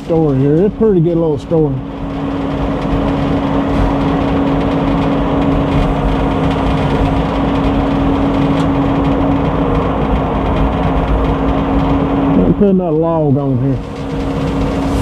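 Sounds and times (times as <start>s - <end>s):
sawmill engine humming: 0.0s - 15.0s.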